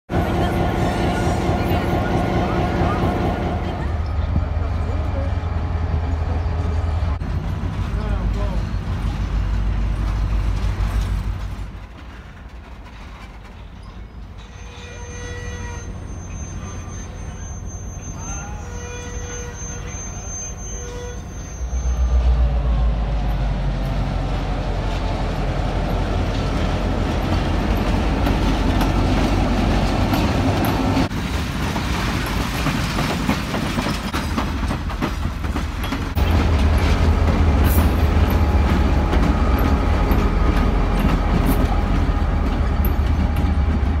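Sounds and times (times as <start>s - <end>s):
train rumbling on track: 0.0s - 44.0s.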